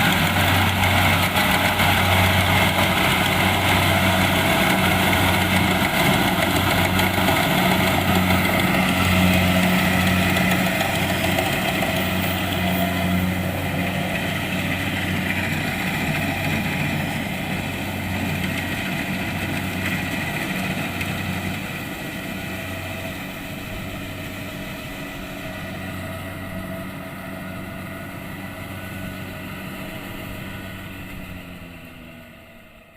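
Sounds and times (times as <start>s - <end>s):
combine harvester engine running: 0.0s - 32.9s.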